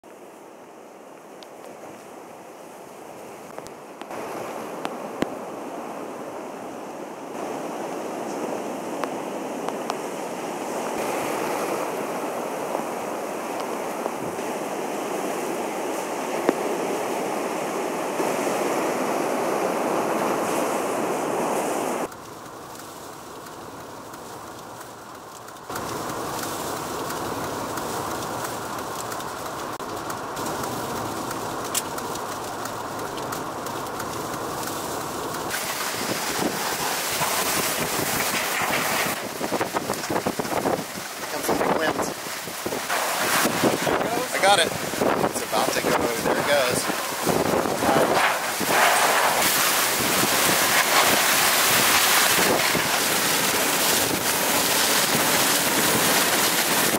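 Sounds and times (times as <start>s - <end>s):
wind-driven rain: 0.0s - 56.9s
strong wind: 0.1s - 22.1s, 30.4s - 56.9s
storm surf crashing: 1.8s - 22.2s, 25.4s - 56.9s.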